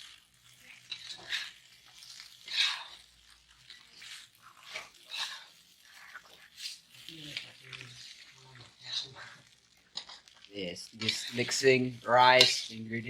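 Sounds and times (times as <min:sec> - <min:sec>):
spatula scraping frying pan: 0:00.0 - 0:13.0.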